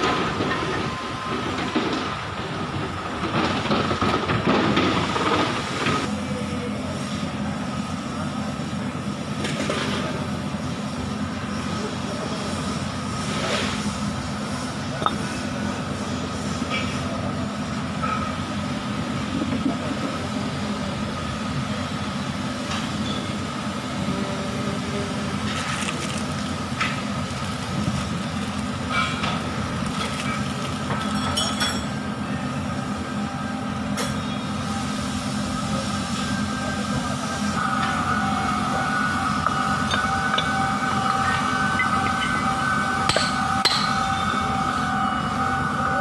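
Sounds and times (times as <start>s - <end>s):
background machinery drone: 0.0s - 46.0s.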